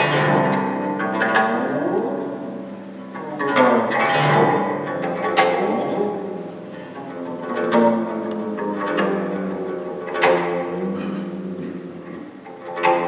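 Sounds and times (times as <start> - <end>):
plucked zither notes: 0.0 - 13.0
ringing strings: 0.0 - 13.0.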